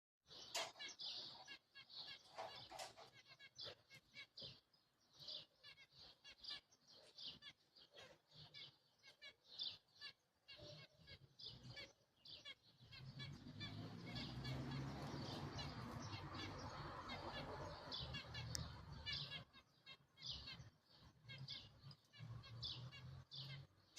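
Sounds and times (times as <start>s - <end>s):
small birds chirping: 0.2s - 23.9s.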